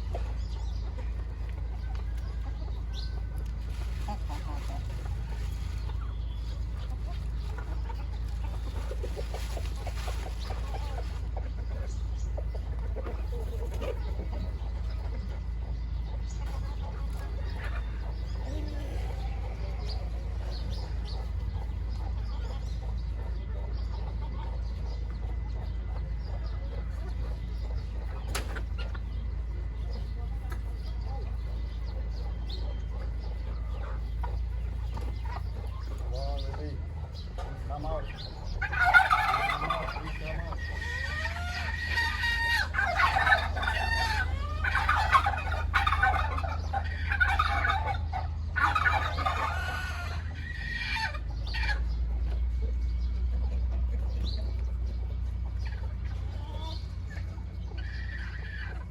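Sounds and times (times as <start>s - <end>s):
chickens clucking and cheeping: 0.0s - 58.9s.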